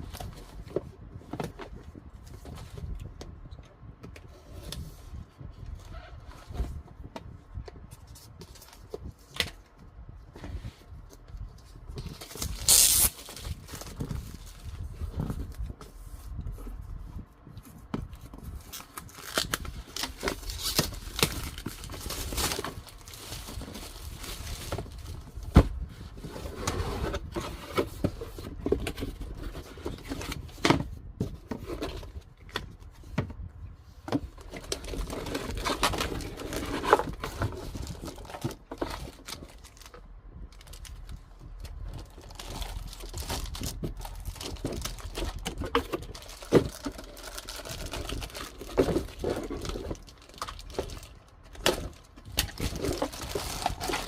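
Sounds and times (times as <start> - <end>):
scraping and crinkling: 10.3 - 54.0.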